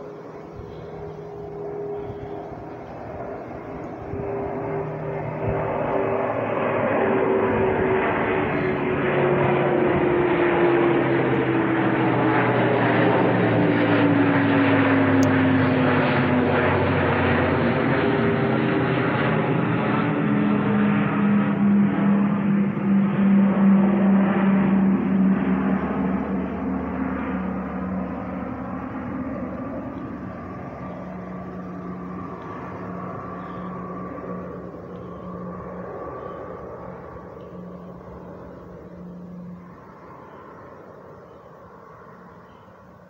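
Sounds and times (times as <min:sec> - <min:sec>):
turboprop aircraft flying over: 0:00.0 - 0:43.0.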